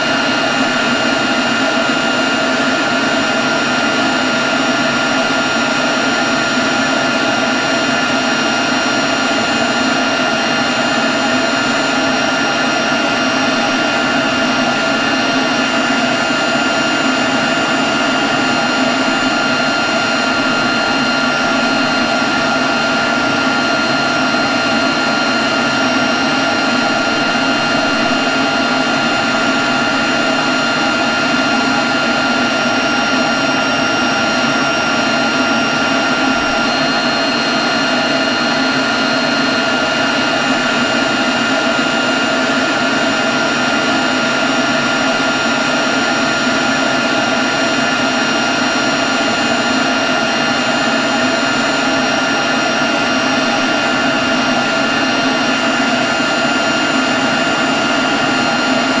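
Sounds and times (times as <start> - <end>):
leaf blower running: 0.0 - 59.0.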